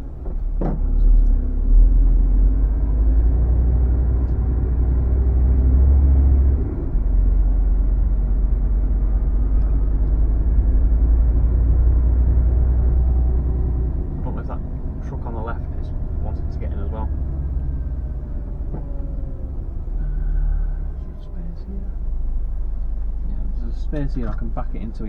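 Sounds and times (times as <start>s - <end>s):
lorry diesel engine rumbling: 0.0s - 25.0s.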